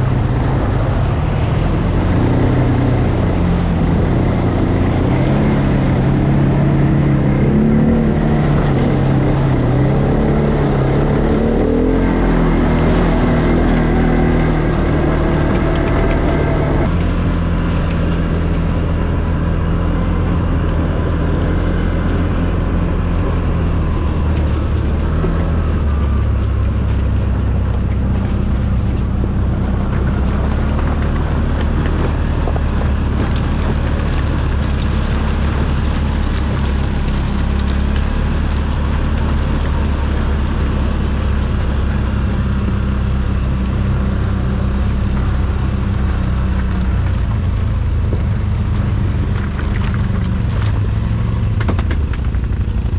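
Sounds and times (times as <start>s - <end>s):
quad bike engine droning: 0.0s - 52.9s.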